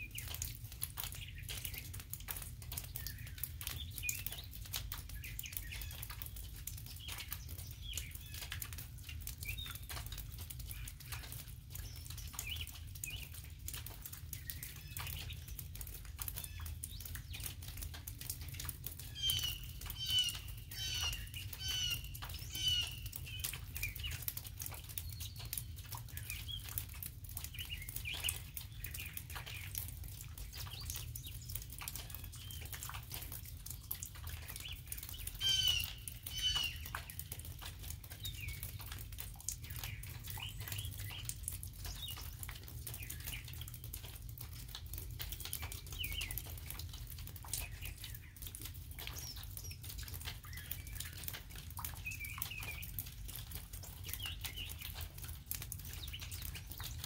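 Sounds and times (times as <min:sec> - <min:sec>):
light rain pattering on leaves: 0:00.0 - 0:57.0
small birds singing: 0:00.0 - 0:57.0.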